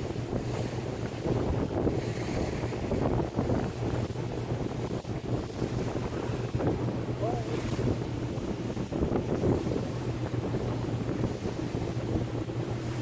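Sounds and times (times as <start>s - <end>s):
speedboat engine humming: 0.0s - 13.0s
water rushing along hull: 0.0s - 13.0s
wind buffeting microphone: 0.0s - 13.0s.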